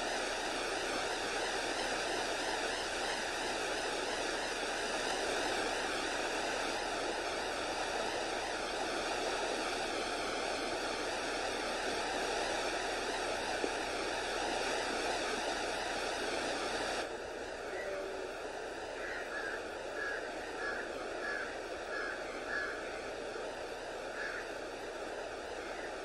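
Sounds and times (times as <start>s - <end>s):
river water rushing over rapids: 0.0s - 26.0s.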